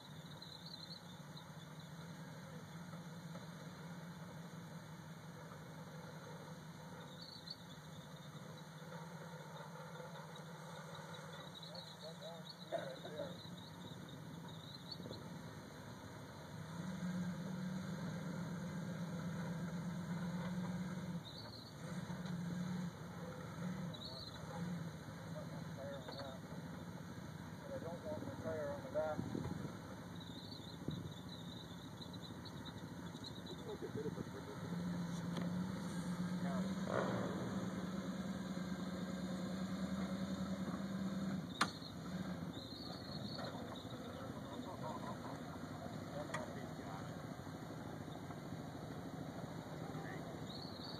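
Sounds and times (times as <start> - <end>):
distant truck engine running: 0.0 - 50.9.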